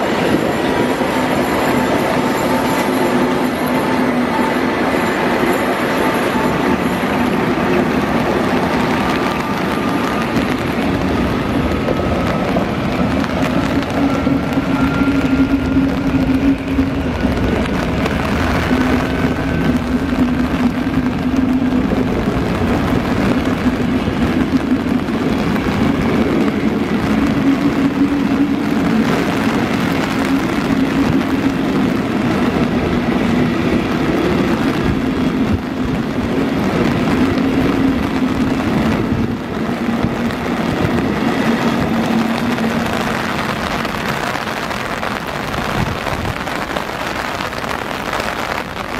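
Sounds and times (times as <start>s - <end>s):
diesel locomotive engines droning: 0.0s - 48.9s
train coaches rumbling on rails: 0.0s - 48.9s.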